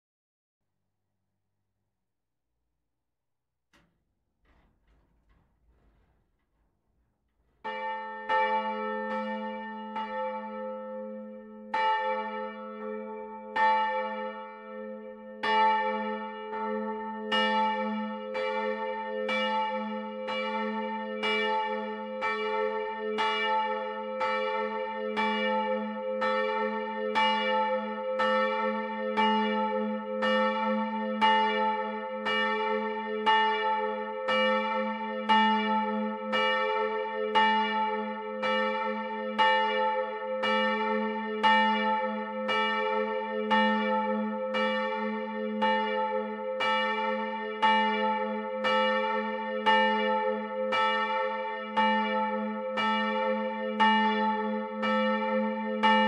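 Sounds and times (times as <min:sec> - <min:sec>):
church bell ringing: 0:07.6 - 0:56.0.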